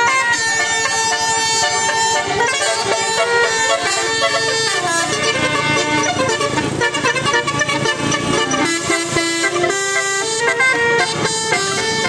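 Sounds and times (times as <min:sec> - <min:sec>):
multi-tone bus horn tune: 0:00.0 - 0:12.0.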